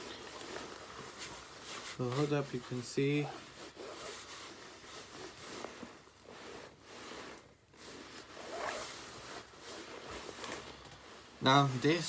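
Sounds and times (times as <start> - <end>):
nylon jacket rustling: 0.0 - 12.0.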